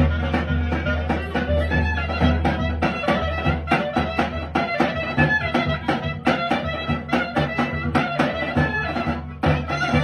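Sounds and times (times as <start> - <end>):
accordion: 0.0 - 10.0
clarinet: 0.0 - 10.0.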